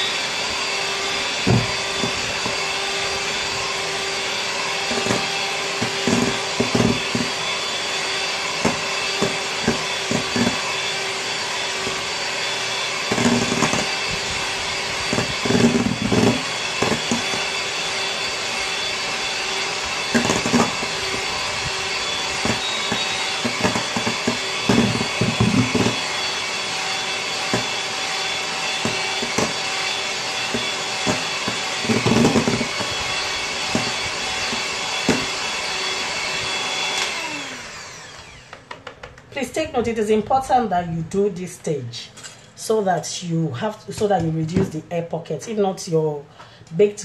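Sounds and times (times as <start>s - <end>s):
electric hand mixer running: 0.0s - 39.8s.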